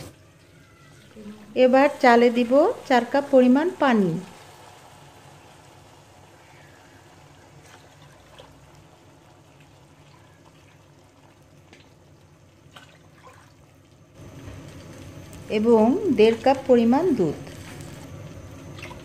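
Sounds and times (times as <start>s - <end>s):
water trickling into pan: 0.0s - 17.0s.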